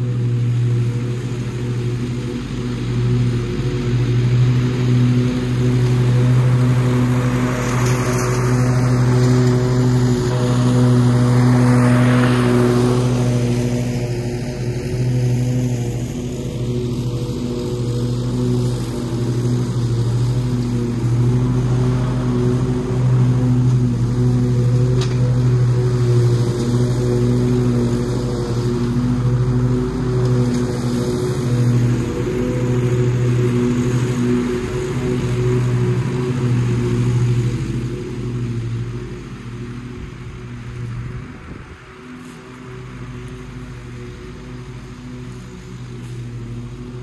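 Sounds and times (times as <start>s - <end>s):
lawn mower engine hum: 0.0s - 47.0s.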